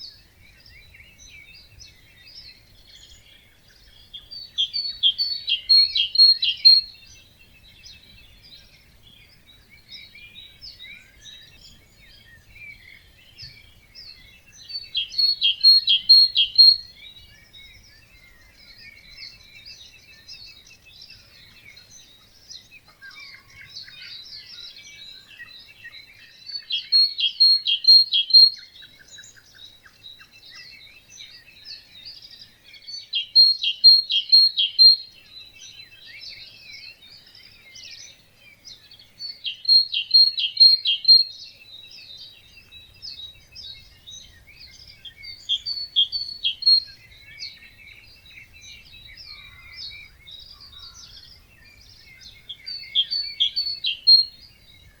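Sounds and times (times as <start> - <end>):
songbirds dawn chorus: 0.0 - 55.0.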